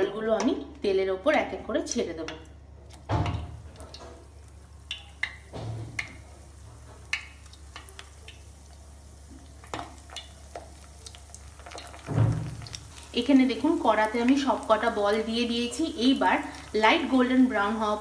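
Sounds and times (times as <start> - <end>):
food sizzling in hot oil: 3.1 - 18.0.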